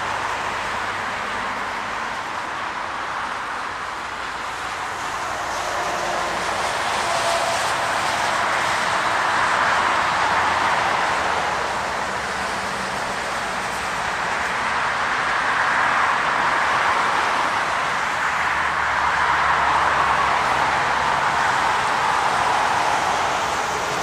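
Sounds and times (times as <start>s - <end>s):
highway tyre noise: 0.0s - 24.0s.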